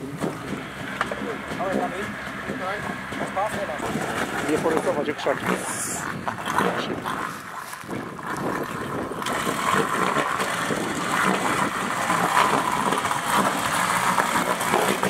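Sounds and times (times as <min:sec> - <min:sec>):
atv engine running hard: 0:00.0 - 0:15.0
wheels churning mud and water: 0:00.0 - 0:15.0.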